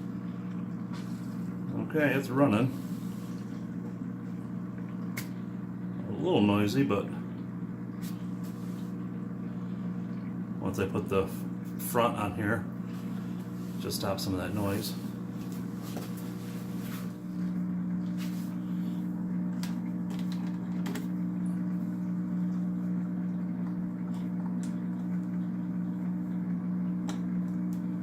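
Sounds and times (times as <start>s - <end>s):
pump motor hum: 0.0s - 28.0s.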